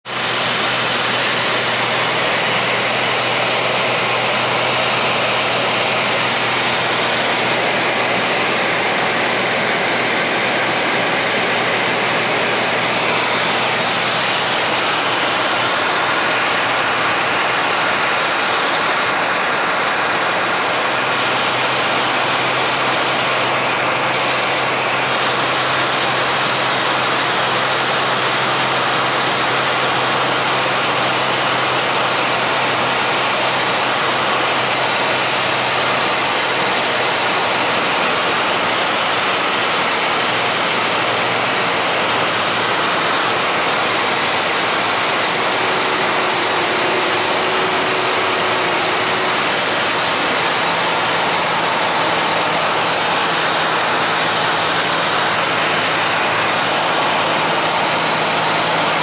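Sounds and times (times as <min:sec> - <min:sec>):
propeller engine drone: 0:00.0 - 0:59.0
rush of airflow: 0:00.1 - 0:59.0.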